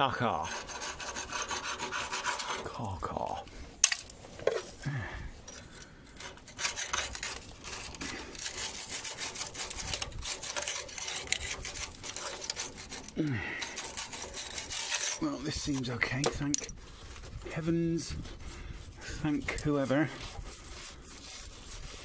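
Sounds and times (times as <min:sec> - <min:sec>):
tool scraping rusty steel: 0:00.0 - 0:22.0.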